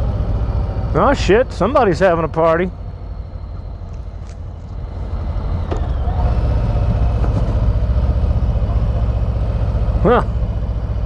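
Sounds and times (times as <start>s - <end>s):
motorcycle engine rumbling: 0.2s - 11.0s.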